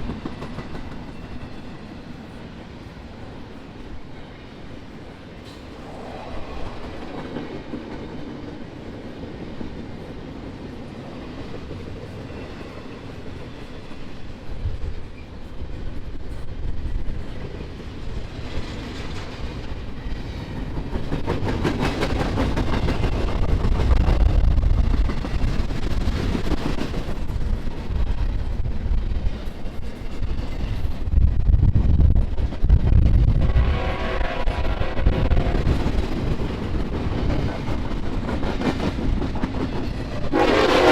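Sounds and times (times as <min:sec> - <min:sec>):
freight train rumble: 0:00.0 - 0:40.9.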